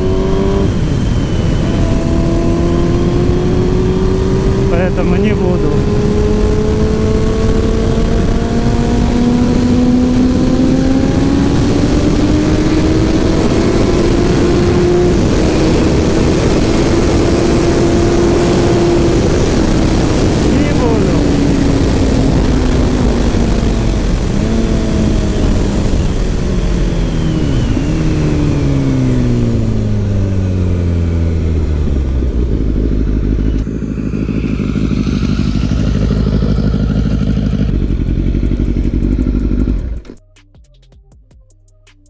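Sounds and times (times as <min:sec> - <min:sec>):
motorcycle engine slowing: 0:00.0 - 0:41.4.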